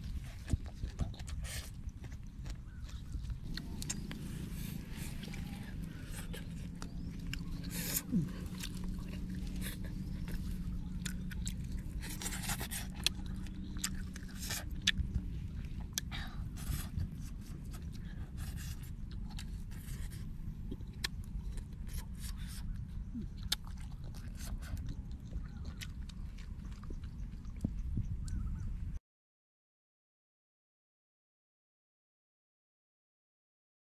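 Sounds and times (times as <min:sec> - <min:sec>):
person chewing: 0:00.0 - 0:28.5
low rumble: 0:00.0 - 0:29.0.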